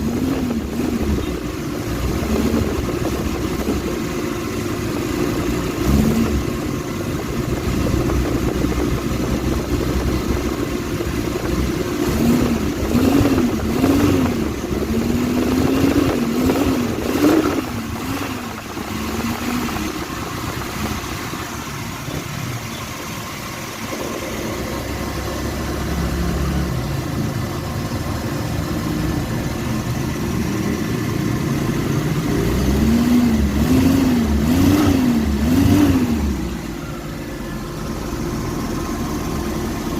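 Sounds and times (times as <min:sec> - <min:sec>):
van engine idling and revving: 0:00.0 - 0:39.9.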